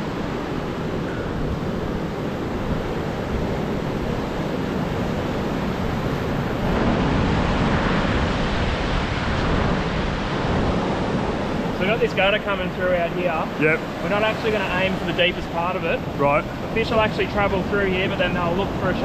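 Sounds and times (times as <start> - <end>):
ocean surf breaking: 0.0 - 19.0
wind on microphone: 0.0 - 19.0.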